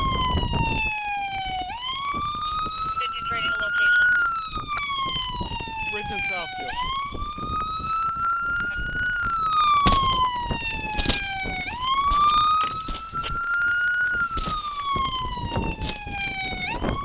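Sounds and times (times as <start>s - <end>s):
police siren wailing: 0.0s - 17.0s.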